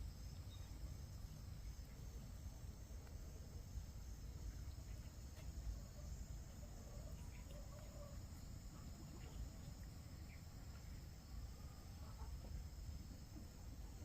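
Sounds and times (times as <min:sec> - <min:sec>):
faint insect chorus: 0:00.0 - 0:14.0.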